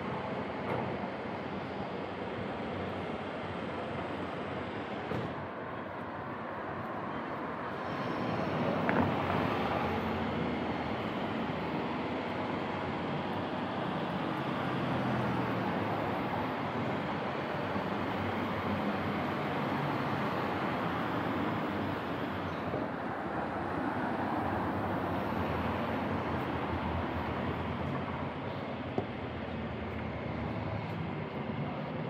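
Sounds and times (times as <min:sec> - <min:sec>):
cars driving along road: 0:00.0 - 0:32.0.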